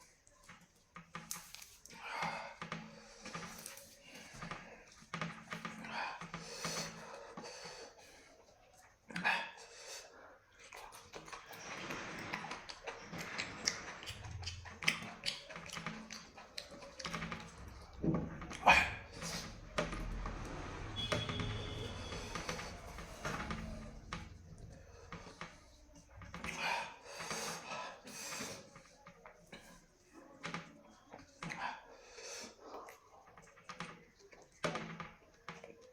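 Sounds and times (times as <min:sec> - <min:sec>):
person chewing food: 0:00.0 - 0:30.3.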